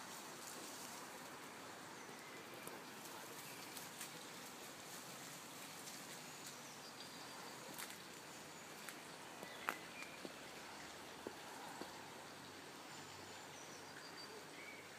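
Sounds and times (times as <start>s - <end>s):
faint clicks and rustles in shrubs: 0.0s - 13.1s.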